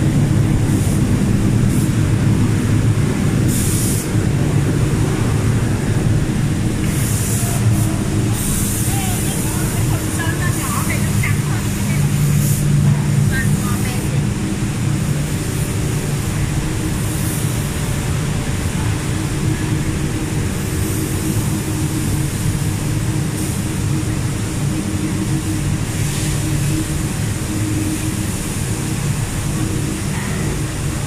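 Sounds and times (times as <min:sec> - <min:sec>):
factory machinery drone: 0:00.0 - 0:31.0.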